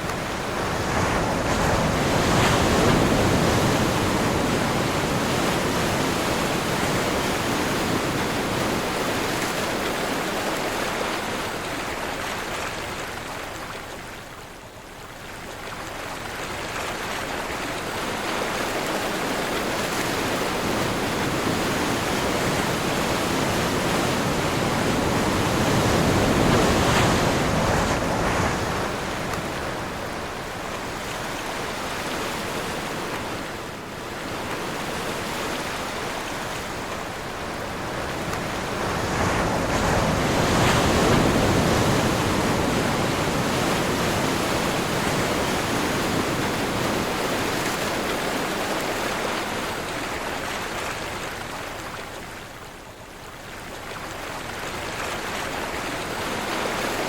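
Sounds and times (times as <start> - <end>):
waves breaking and washing in: 0.0 - 57.0
wind: 0.0 - 57.0.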